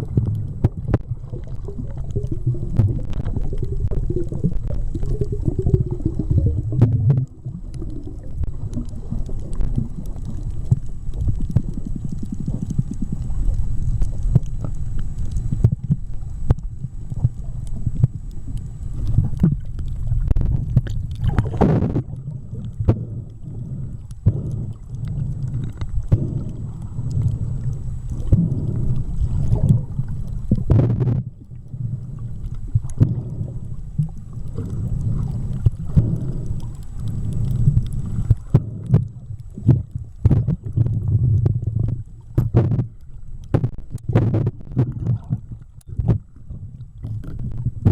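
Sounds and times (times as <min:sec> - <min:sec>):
small underwater clicks: 0:00.0 - 0:47.9
underwater rumbling and gurgling: 0:00.0 - 0:47.9.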